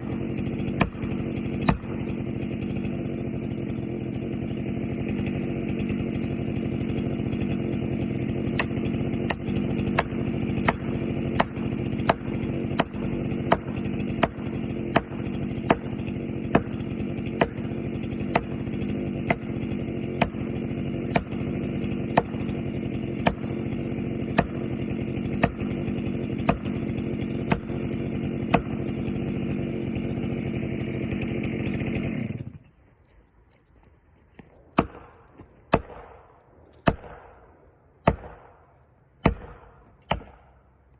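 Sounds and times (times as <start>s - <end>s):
chainsaw running: 0.0s - 37.4s, 38.0s - 40.9s.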